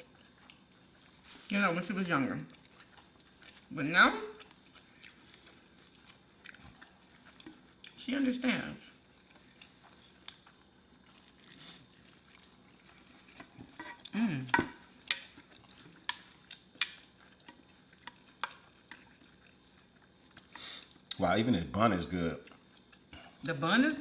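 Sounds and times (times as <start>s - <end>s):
wet chewing: 0.0s - 8.1s, 8.9s - 14.2s, 14.8s - 21.2s.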